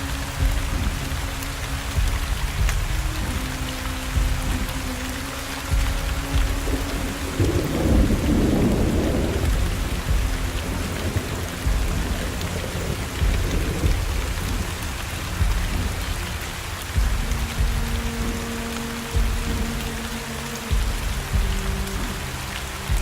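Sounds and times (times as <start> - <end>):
deep rumbles: 0.0 - 23.0
heavy rain: 0.0 - 23.0.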